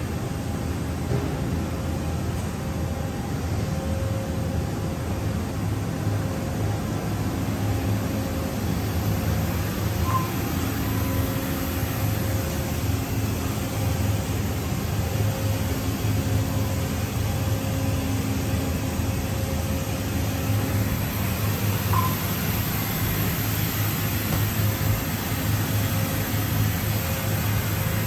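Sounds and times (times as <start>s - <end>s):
machining center hum and hiss: 0.0s - 28.0s.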